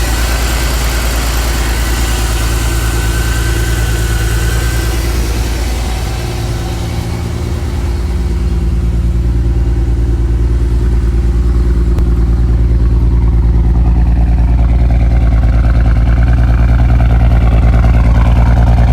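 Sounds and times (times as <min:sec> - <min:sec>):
misfiring car engine pulsing: 0:00.0 - 0:18.9.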